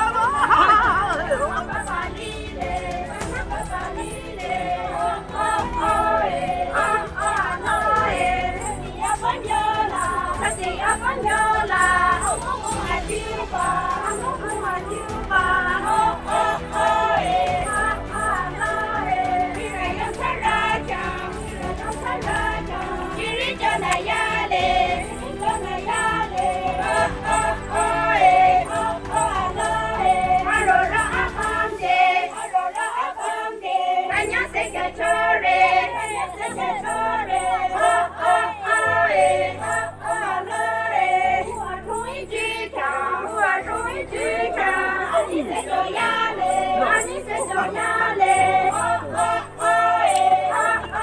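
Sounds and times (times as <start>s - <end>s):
group singing in chorus: 0.0s - 51.0s.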